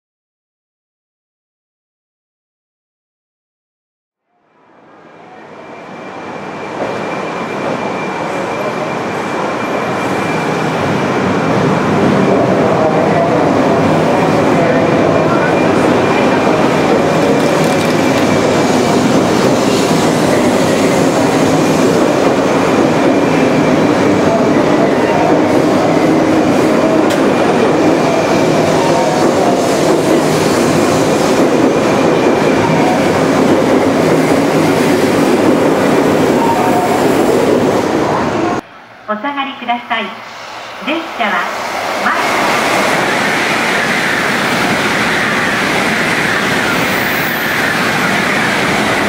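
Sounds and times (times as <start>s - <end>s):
train wheels rumbling on rail: 5.3s - 38.6s, 40.4s - 49.0s.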